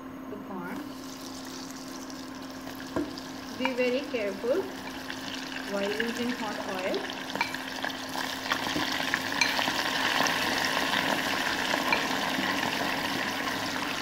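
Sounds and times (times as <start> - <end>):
corn sizzling in hot oil: 0.8 - 14.0.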